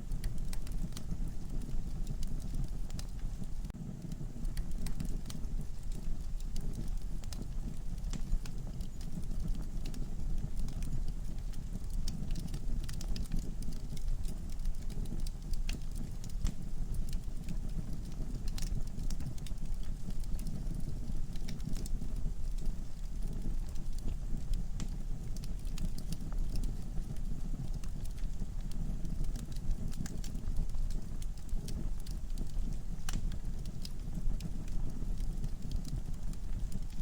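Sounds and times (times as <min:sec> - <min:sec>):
fire crackling and popping: 0:00.0 - 0:37.0
low rumble of flame: 0:00.0 - 0:37.0.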